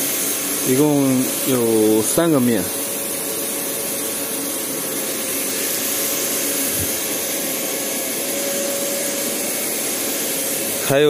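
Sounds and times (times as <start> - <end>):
machine hiss: 0.0 - 11.0.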